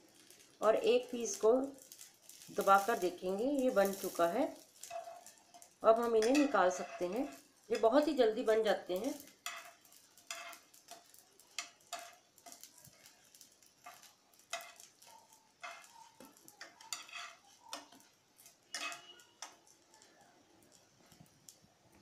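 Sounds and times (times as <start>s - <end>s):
eggplant frying in oil: 0.0s - 22.0s
faint crackles and pops: 0.0s - 22.0s.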